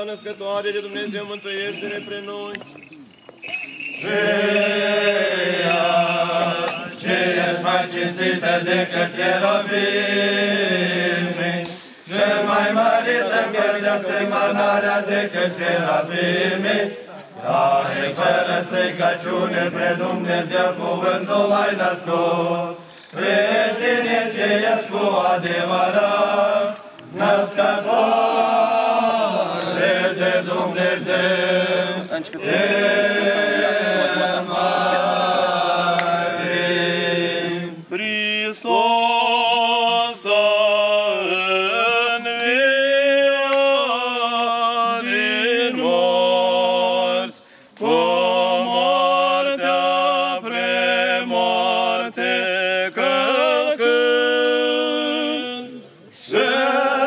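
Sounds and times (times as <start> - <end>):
liturgical chant: 0.0 - 57.0.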